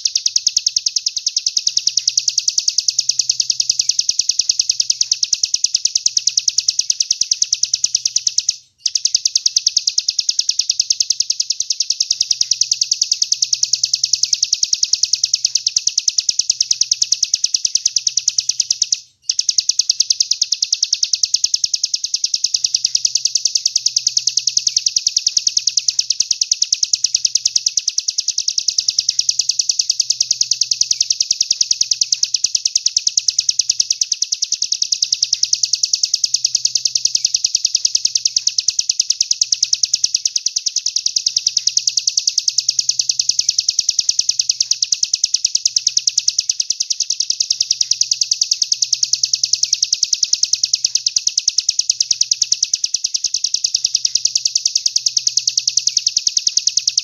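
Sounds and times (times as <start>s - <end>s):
songbird rapid trill: 0.0s - 57.0s.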